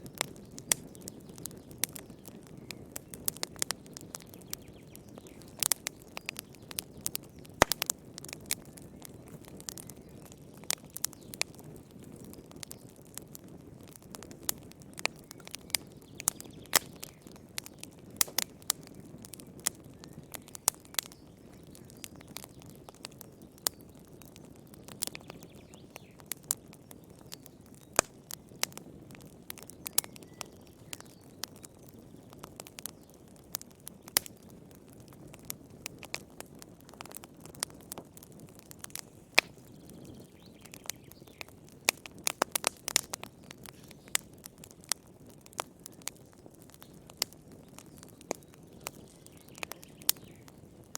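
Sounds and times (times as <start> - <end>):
firewood popping and crackling: 0.0 - 50.9.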